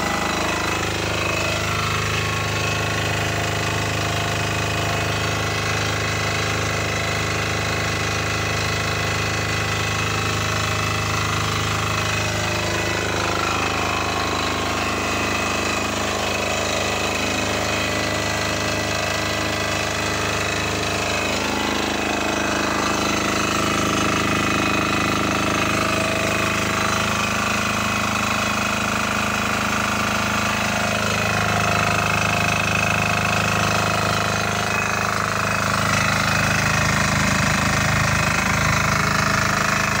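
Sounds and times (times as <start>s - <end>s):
diesel generator running: 0.0s - 40.0s.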